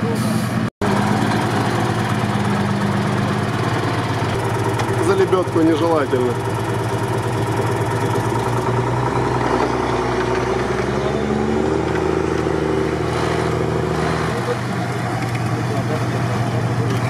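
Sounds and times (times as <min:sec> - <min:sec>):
suv engine working under load: 0:00.0 - 0:17.0.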